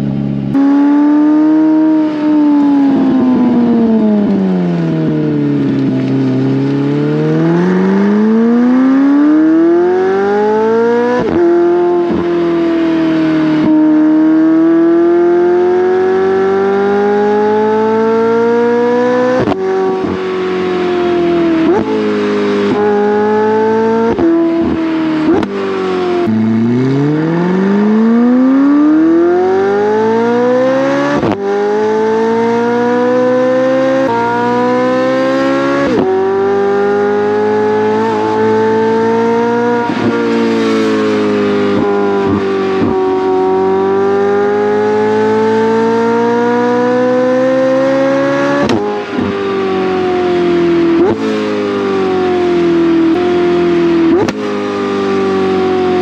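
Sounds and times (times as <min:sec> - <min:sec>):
sports car accelerating hard: 0:00.0 - 0:56.0.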